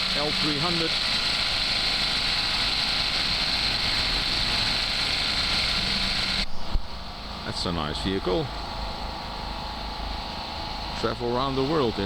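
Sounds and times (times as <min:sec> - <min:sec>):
machinery running with high hiss: 0:00.0 - 0:12.0.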